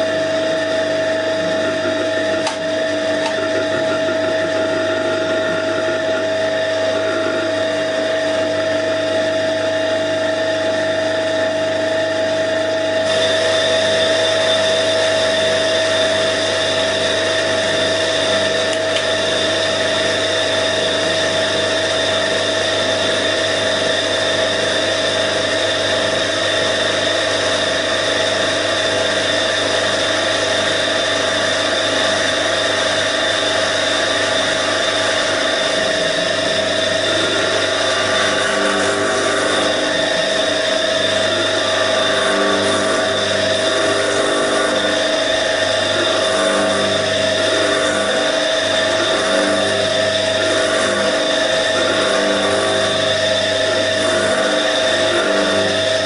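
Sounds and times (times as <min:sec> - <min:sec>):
vacuum pump humming and whining: 0:00.0 - 0:56.0.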